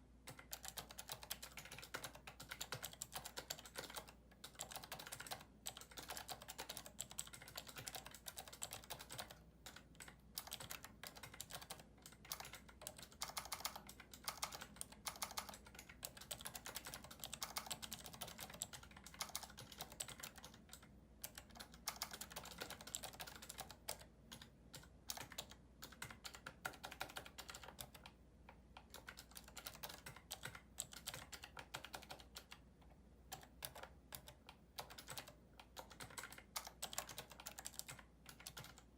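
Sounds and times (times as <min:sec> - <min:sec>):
fast typing on clicky keyboard: 0:00.2 - 0:38.9.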